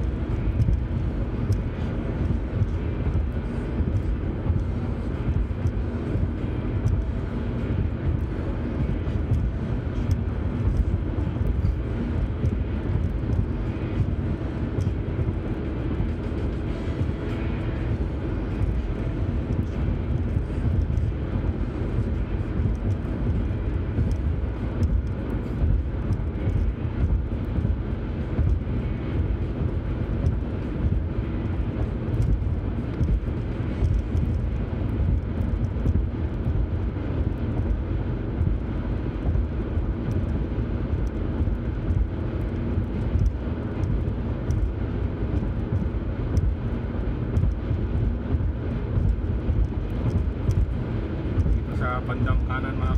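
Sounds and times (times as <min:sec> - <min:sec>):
car road noise: 0:00.0 - 0:52.9.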